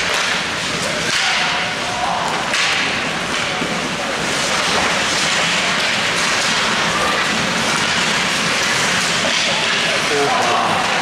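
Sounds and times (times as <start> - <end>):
arena noise: 0.0 - 11.0
skates carving ice: 0.0 - 11.0.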